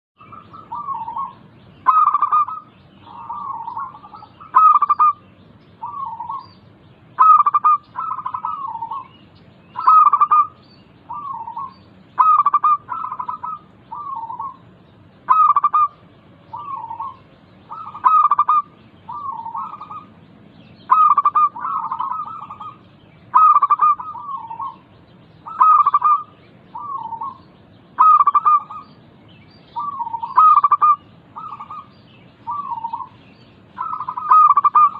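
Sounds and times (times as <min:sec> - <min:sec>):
dove cooing: 0:00.2 - 0:05.2, 0:05.8 - 0:06.6, 0:07.2 - 0:14.6, 0:15.3 - 0:20.1, 0:20.8 - 0:27.4, 0:28.0 - 0:28.9, 0:29.7 - 0:34.9.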